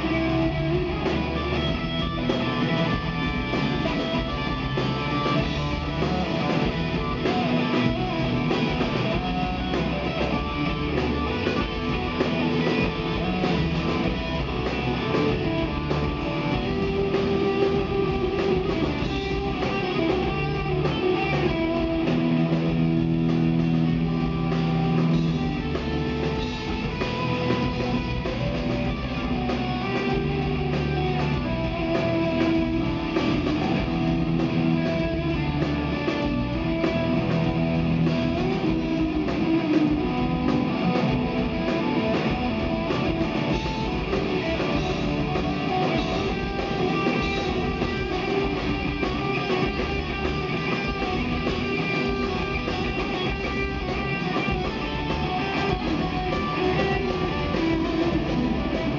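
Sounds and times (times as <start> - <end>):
rock band playing live: 0.0 - 58.9.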